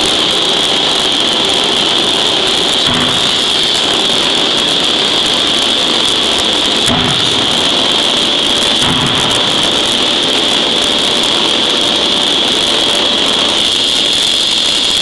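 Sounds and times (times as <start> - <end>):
forging hammer hiss and whine: 0.0 - 15.0.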